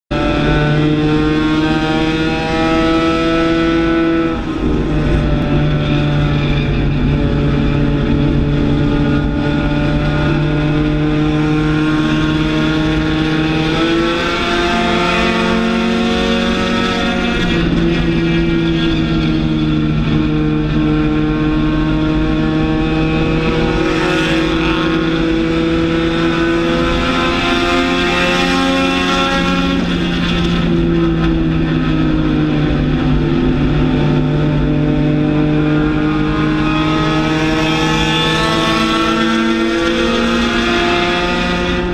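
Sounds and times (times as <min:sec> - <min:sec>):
race car engine at high revs: 0:00.1 - 0:41.9.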